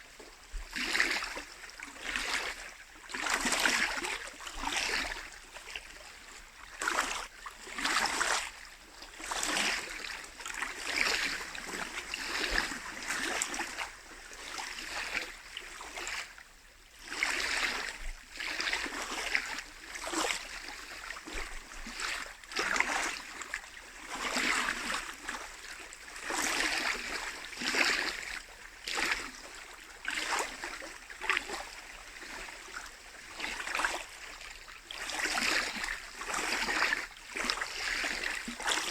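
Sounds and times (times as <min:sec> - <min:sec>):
waves lapping on shore: 0:00.0 - 0:16.4, 0:17.0 - 0:38.9.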